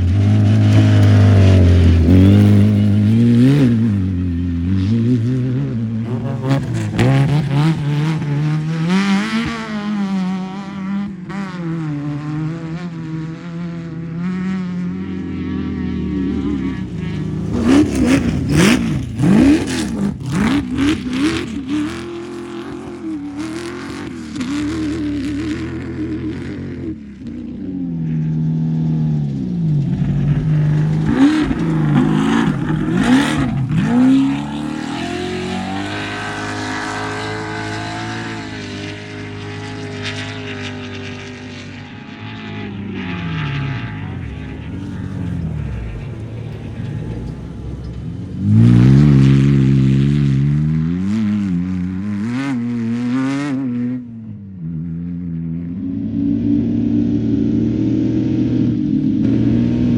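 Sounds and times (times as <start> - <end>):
race vehicle engines revving: 0.0 - 59.9.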